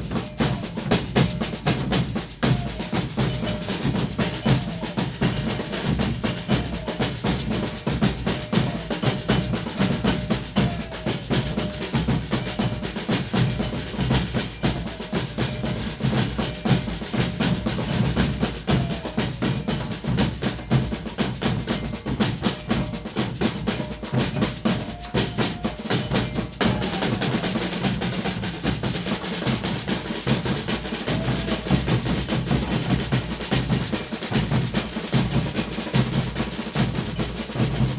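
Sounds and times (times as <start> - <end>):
percussion group drumming: 0.0 - 37.9.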